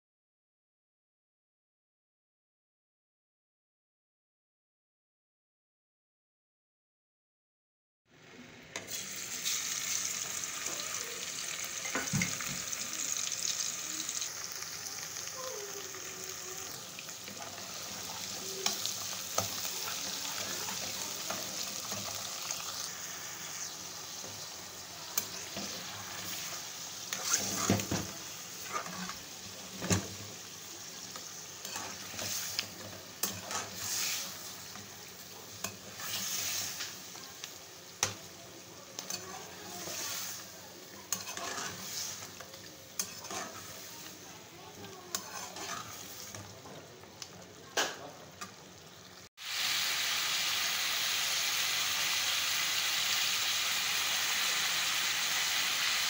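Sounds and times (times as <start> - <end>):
hot oil sizzling: 8.4 - 56.0.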